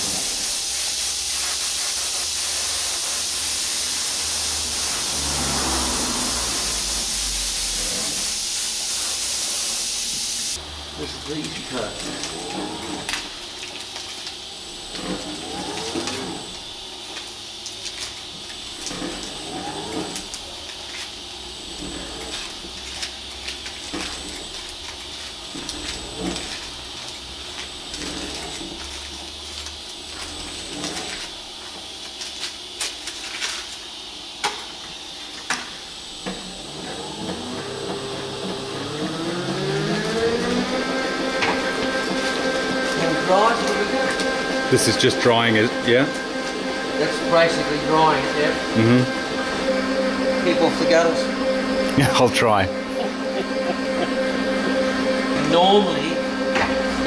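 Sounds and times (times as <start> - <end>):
paint dryer motor whine: 0.0 - 57.0.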